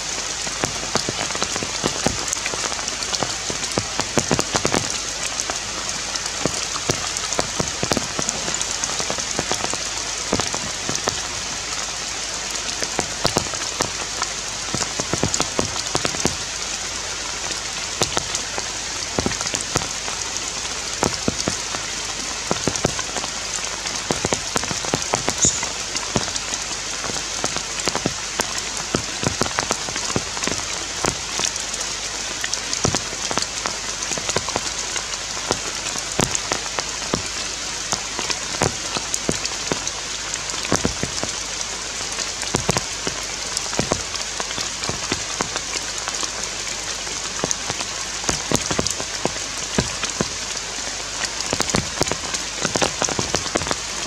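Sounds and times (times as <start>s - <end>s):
rain falling on foliage: 0.0s - 54.0s
raindrops tapping: 0.0s - 54.0s.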